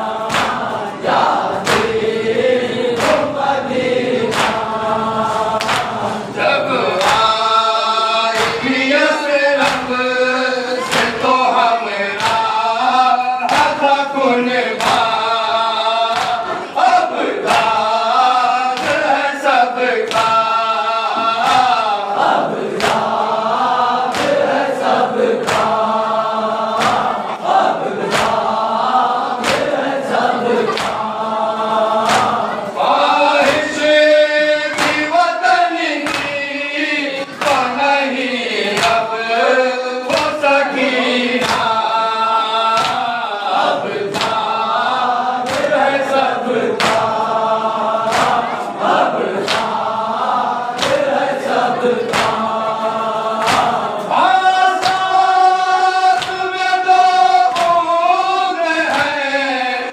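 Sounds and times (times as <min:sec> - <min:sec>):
men chanting in chorus: 0:00.0 - 0:59.9
rhythmic hand slaps on chest: 0:00.0 - 0:59.9.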